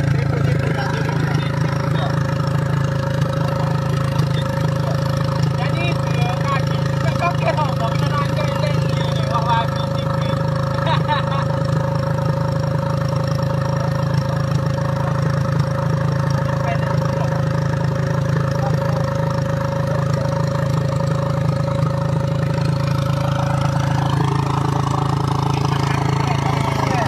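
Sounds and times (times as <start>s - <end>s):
dirt bike engine idling: 0.0s - 27.0s.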